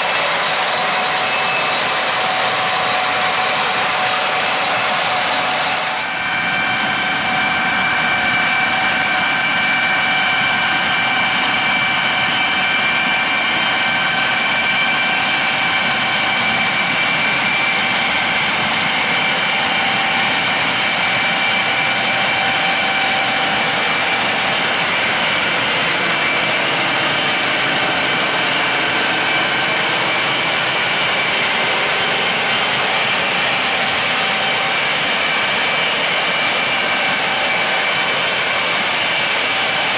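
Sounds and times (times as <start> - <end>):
combine harvester drone: 0.0 - 39.9
high machine whine: 0.0 - 39.9.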